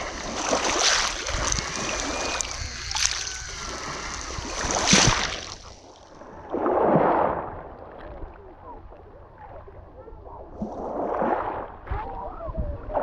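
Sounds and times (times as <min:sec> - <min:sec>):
water washing: 0:00.0 - 0:12.3
waves breaking on shore: 0:00.0 - 0:13.0.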